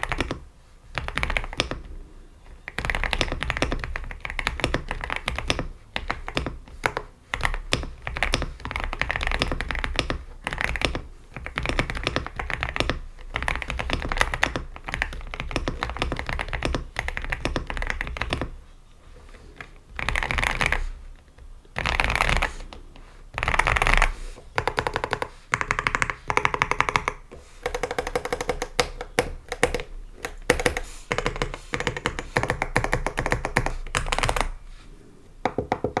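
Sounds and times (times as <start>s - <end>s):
mechanical keyboard typing: 0.0s - 18.6s, 19.6s - 20.9s, 21.7s - 22.8s, 23.4s - 34.6s.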